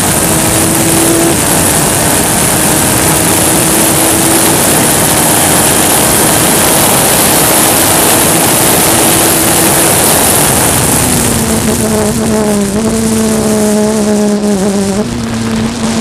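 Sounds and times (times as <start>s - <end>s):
race car engine drone: 0.0s - 16.0s
rushing wind and road noise: 0.0s - 16.0s.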